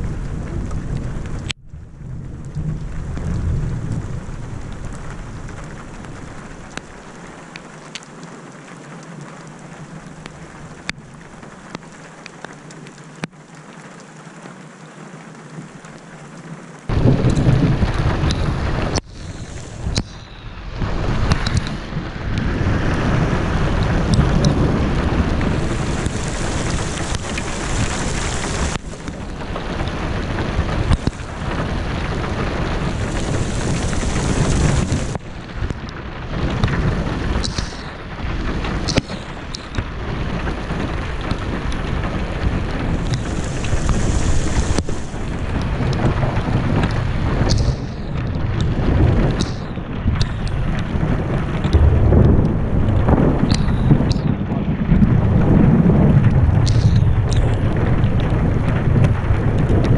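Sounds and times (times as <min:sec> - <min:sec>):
thunder rumbling: 0:00.0 - 0:13.2, 0:15.6 - 0:59.9
heavy rain: 0:00.0 - 0:59.9.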